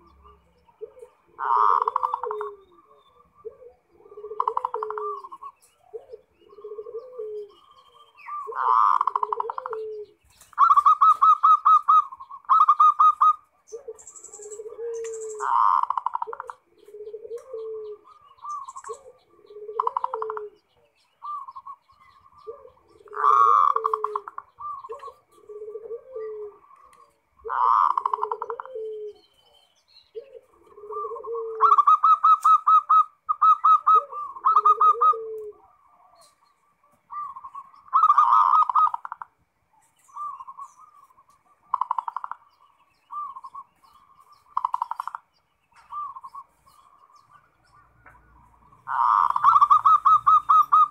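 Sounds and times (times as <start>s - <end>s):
deeper dove coos: 0.0s - 50.9s
dove cooing: 0.0s - 50.9s.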